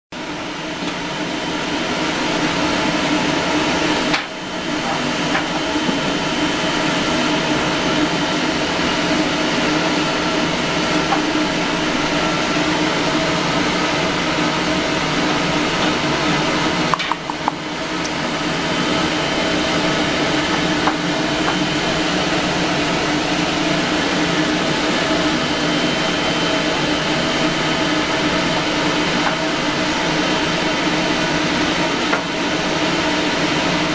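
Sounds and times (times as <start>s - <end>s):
motor drone: 0.3s - 33.9s.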